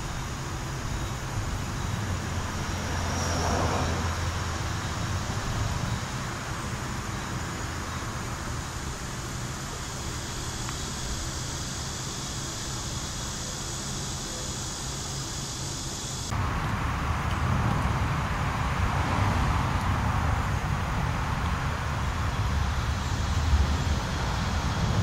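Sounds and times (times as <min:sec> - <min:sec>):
steady rumbling noise: 0:00.0 - 0:25.0.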